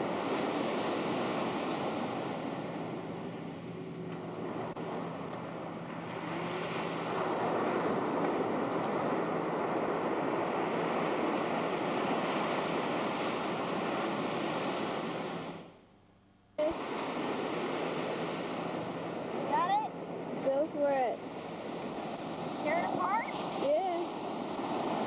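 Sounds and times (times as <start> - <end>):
ocean surf: 0.0 - 15.8, 16.6 - 25.0.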